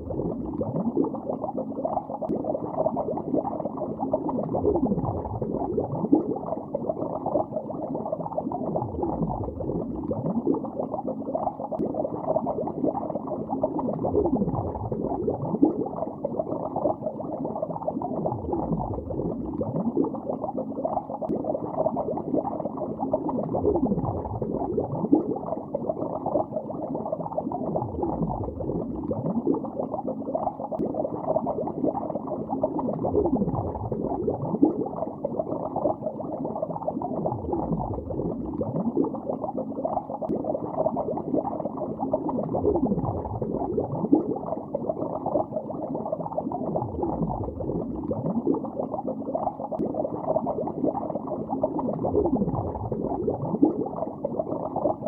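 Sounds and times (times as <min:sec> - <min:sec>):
underwater bubbling: 0:00.0 - 0:55.0.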